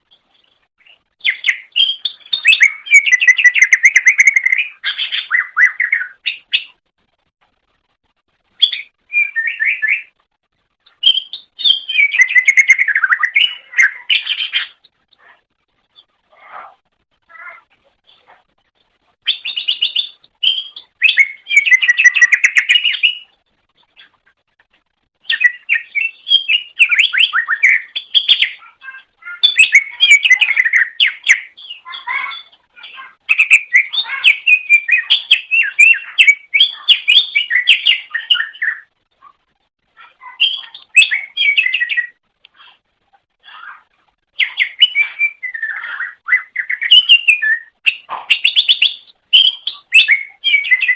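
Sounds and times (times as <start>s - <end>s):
bird chattering song: 0.0s - 6.8s, 10.8s - 16.2s, 19.2s - 24.3s, 25.2s - 39.0s, 40.0s - 42.8s, 43.5s - 50.9s.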